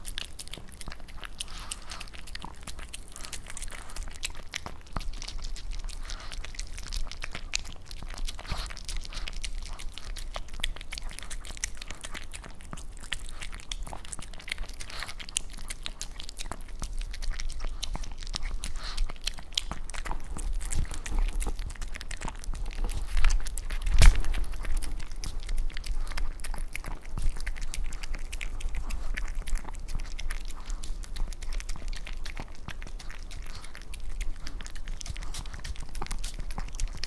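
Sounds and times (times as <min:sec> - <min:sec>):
dog chewing meat: 0:00.0 - 0:37.0.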